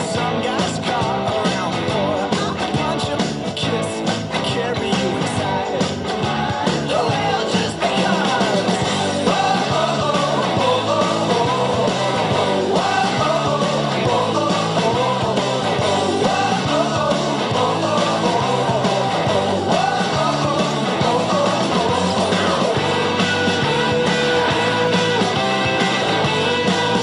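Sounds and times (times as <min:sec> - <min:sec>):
rock song with singing: 0:00.0 - 0:27.0
steady bass line: 0:00.0 - 0:27.0.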